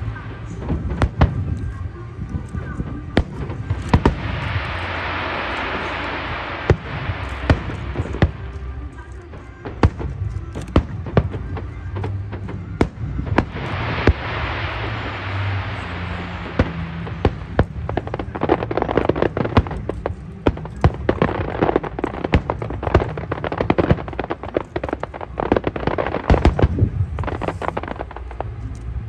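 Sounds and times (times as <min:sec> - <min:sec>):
fireworks bursting: 0:00.0 - 0:29.0
low rumble: 0:00.0 - 0:29.0
sparkling fireworks crackle: 0:00.0 - 0:29.0.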